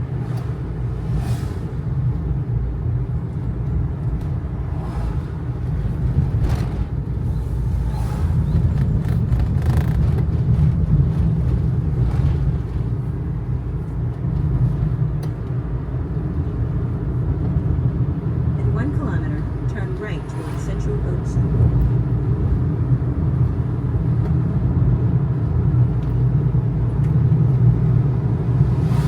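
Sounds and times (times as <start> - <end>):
road rumble: 0.0 - 29.0.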